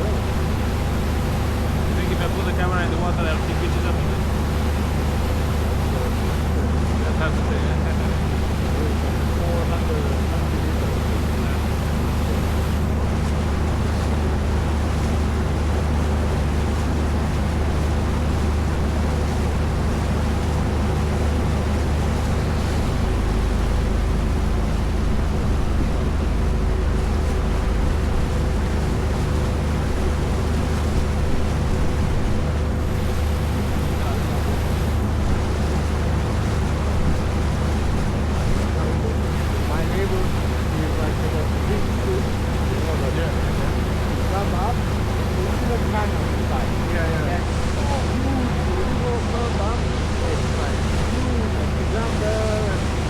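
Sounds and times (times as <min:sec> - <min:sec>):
motorboat engine humming: 0:00.0 - 0:53.0
water rushing: 0:00.0 - 0:53.0.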